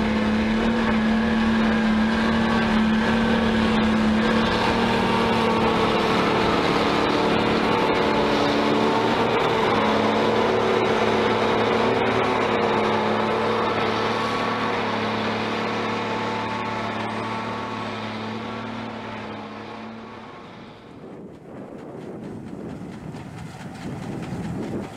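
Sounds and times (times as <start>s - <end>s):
diesel engine drone: 0.0s - 24.9s
snow blower rushing: 0.0s - 24.9s.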